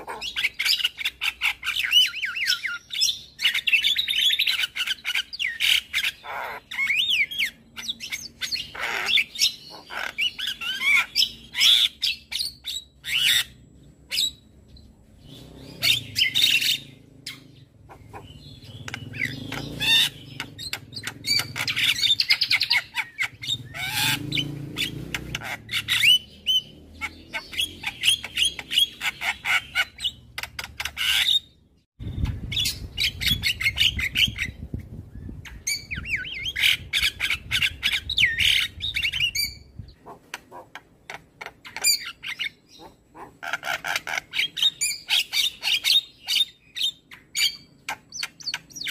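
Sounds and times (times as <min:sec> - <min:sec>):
myna bird singing: 0:00.0 - 0:48.9.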